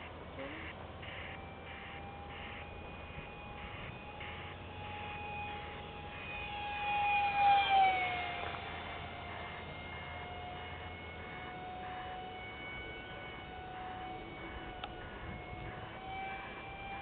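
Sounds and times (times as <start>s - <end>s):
model jet fan whine: 0.0s - 17.0s.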